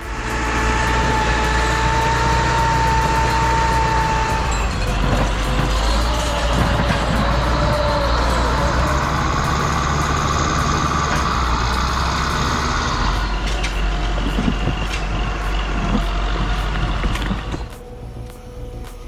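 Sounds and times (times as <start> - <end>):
diesel machine engine running: 0.0 - 17.8.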